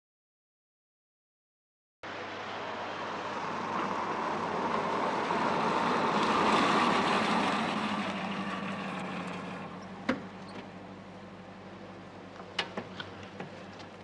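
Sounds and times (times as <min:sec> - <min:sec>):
car engine and tyre noise: 0:02.0 - 0:14.0.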